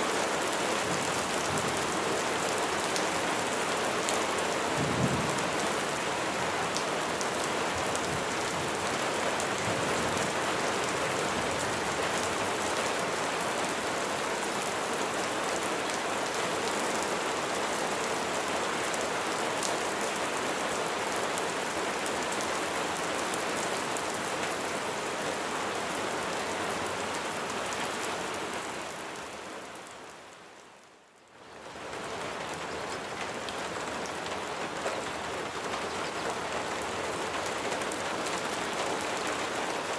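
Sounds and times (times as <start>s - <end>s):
rain on surfaces: 0.0s - 39.9s.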